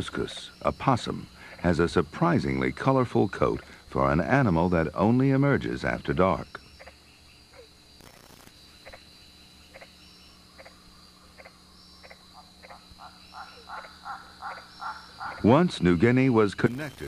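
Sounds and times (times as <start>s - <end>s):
faint high-pitched whine: 0.0s - 17.0s
frogs croaking: 0.0s - 17.0s.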